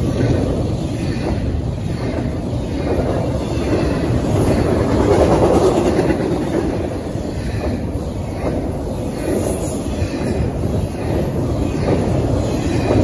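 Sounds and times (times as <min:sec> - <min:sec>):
freight train wheels rumbling on track: 0:00.0 - 0:13.0.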